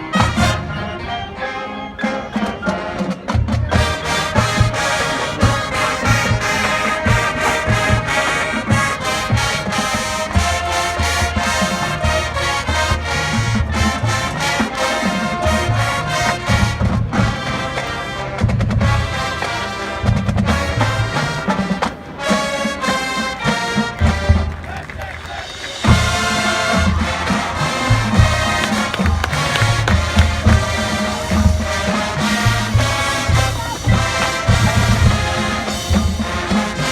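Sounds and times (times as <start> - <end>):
brass melody: 0.0 - 36.9
drums and percussion: 0.0 - 36.9.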